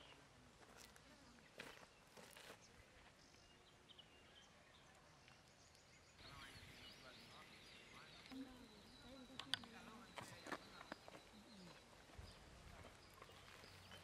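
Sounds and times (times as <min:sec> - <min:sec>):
faint outdoor ambience: 0:00.0 - 0:14.0
faint bird chirps: 0:01.1 - 0:14.0.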